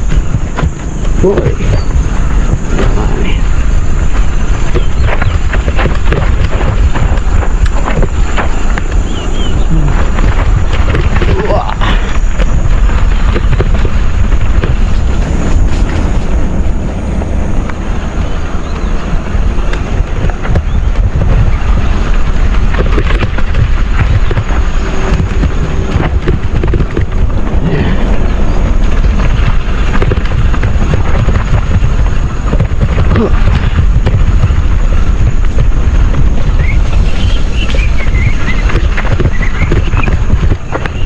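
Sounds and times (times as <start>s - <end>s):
mountain bike rattling and knocking: 0.0s - 41.0s
wind buffeting microphone: 0.0s - 41.0s.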